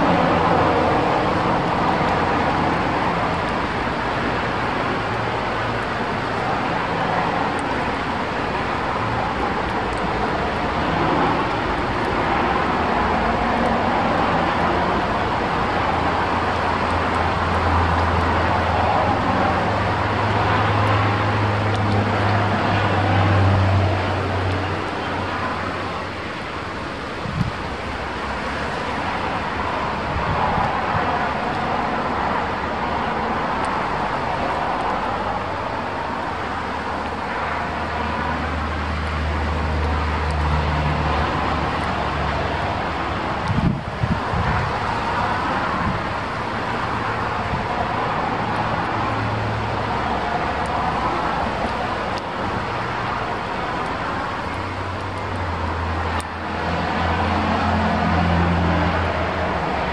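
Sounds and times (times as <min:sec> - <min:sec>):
wind gusting through trees: 0:00.0 - 0:59.9.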